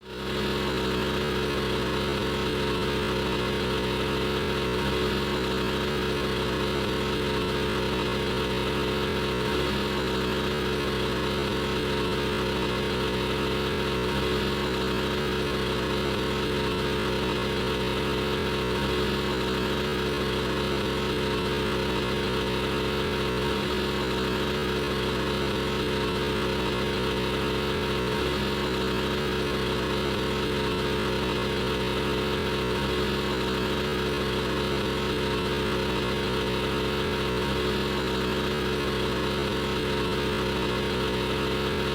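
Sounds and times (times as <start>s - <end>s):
generator running: 0.0s - 41.9s.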